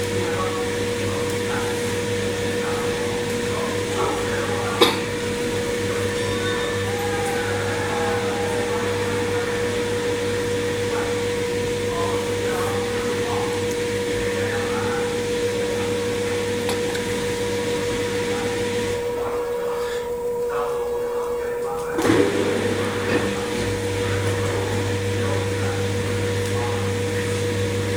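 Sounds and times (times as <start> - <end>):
washing machine motor humming: 0.0 - 27.9.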